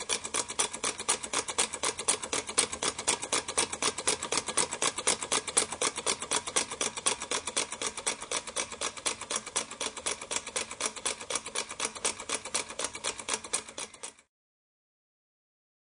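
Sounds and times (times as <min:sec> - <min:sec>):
small engine clicking rhythmically: 0:00.0 - 0:14.3.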